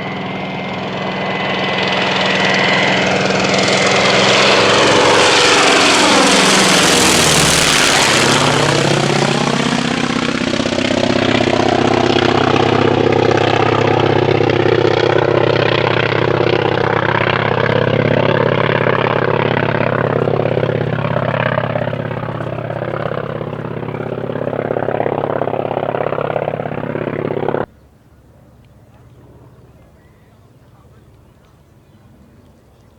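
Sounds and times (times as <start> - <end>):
radial engine plane flyby: 0.0 - 32.9.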